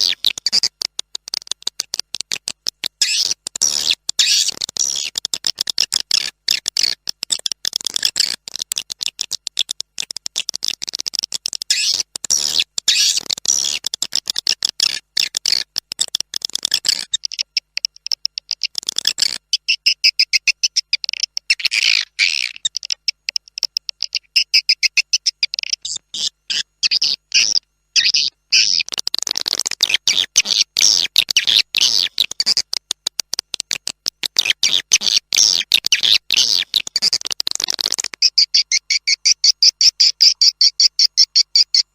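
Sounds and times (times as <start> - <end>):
bird chirps and twitters: 0.0 - 32.9, 33.5 - 41.9.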